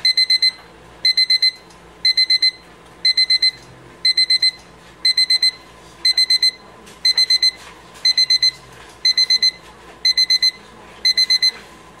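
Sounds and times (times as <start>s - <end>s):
electronic alarm beeping: 0.0s - 11.6s.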